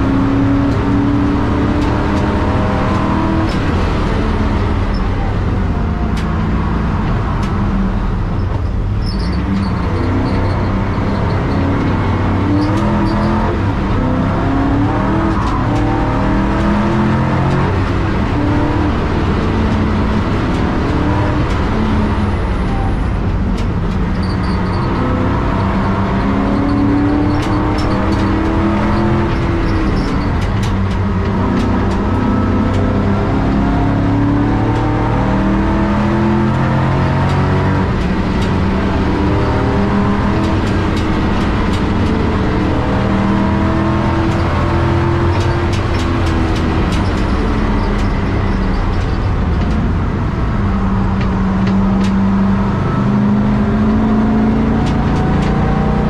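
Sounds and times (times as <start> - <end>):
race car engine revving through gears: 0.0 - 56.0.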